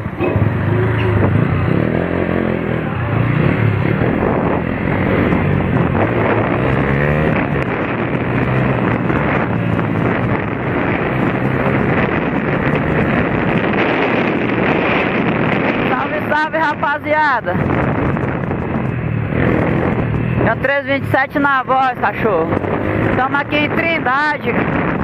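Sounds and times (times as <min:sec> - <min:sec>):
vehicle engine running: 0:00.0 - 0:25.0
wind noise on microphone: 0:00.0 - 0:25.0.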